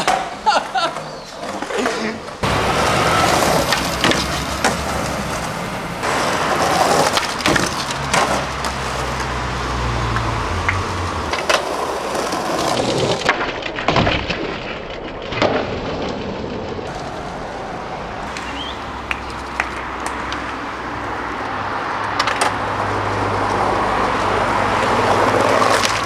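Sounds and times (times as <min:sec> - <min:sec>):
skateboard wooden clacks: 0:00.0 - 0:02.5, 0:03.2 - 0:09.3, 0:10.1 - 0:17.2, 0:18.3 - 0:20.6, 0:22.0 - 0:22.6, 0:23.4 - 0:26.0
skateboard wheels rolling on asphalt: 0:00.0 - 0:26.0.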